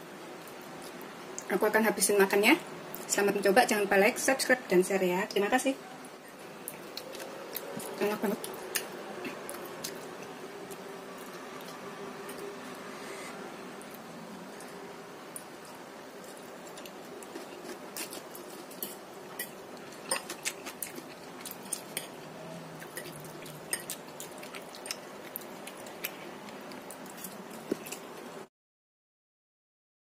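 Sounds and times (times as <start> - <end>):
low background hum: 0.0 - 28.5.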